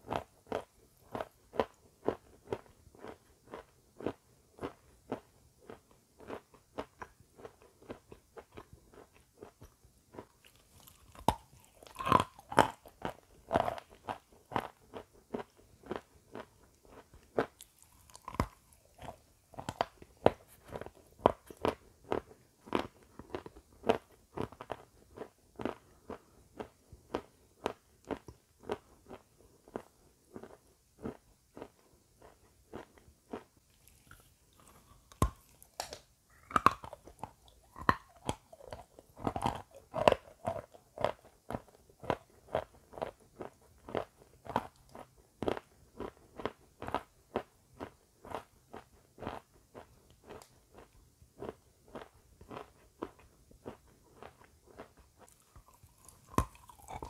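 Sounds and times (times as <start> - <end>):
crunchy snack chewing: 0.0 - 57.0.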